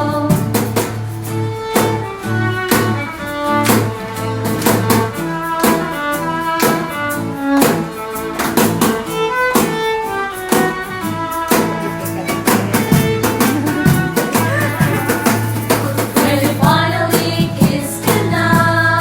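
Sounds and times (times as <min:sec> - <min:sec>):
instrumental band music: 0:00.0 - 0:19.0.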